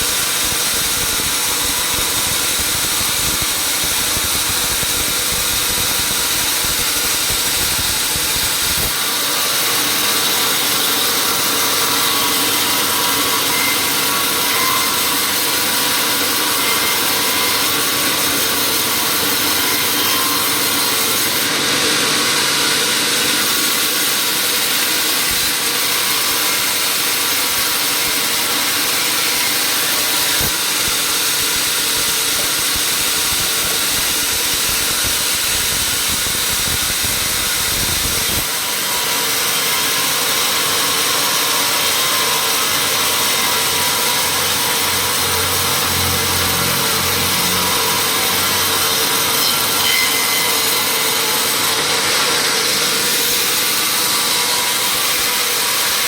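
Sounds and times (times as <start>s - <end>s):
sawmill machinery cutting wood: 0.0s - 56.0s.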